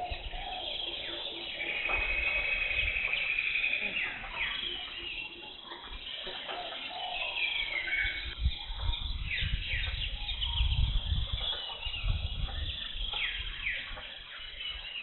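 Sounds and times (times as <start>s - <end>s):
jungle birds calling: 0.0s - 15.0s.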